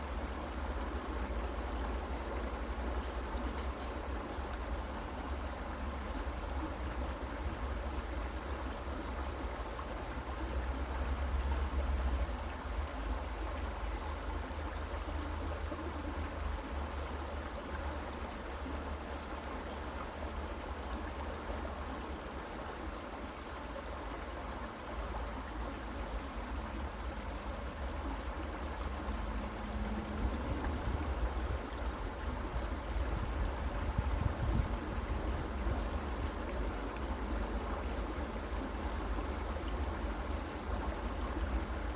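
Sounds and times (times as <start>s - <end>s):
creek water gurgling: 0.0s - 41.9s.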